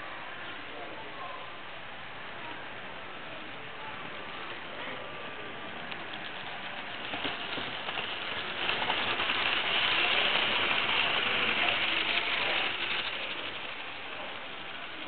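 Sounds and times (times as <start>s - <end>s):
model train whirring and clicking: 1.7s - 15.0s.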